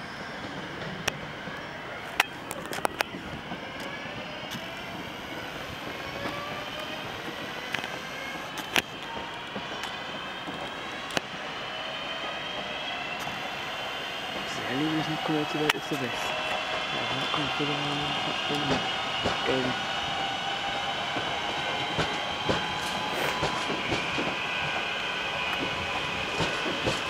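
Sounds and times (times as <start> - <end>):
electric train motors whining: 0.0 - 27.0
wheels rumbling on rail: 0.0 - 27.0.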